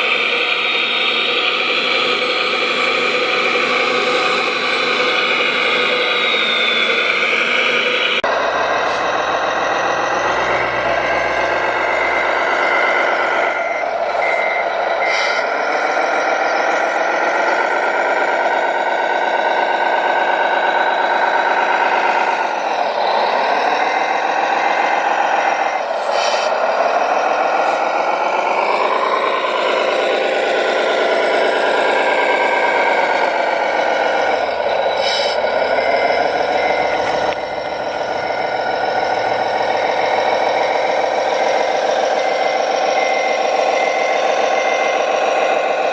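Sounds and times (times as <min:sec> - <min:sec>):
toy construction machine whine: 0:00.0 - 0:45.9
reversing beeper: 0:00.2 - 0:45.9.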